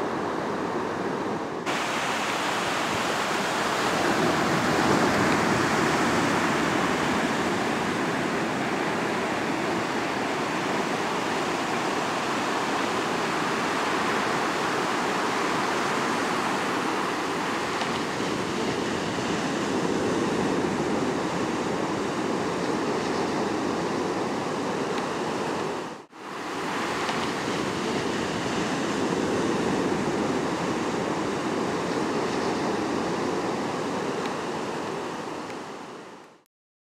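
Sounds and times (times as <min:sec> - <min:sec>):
ocean surf breaking: 0:00.0 - 0:36.2.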